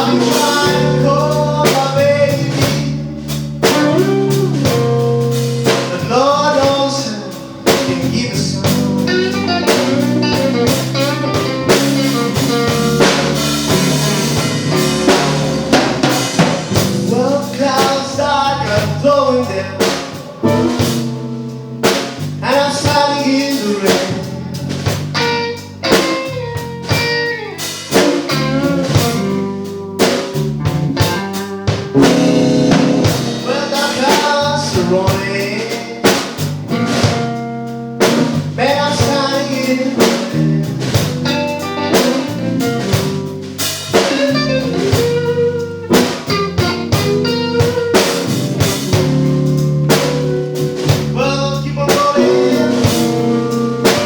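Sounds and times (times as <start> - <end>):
electric guitar lead: 0.0 - 54.0
live blues band: 0.0 - 54.0.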